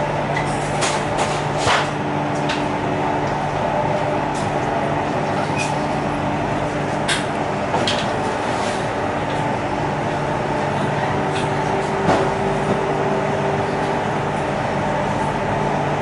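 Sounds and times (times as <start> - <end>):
train traction motors humming: 0.0 - 16.0.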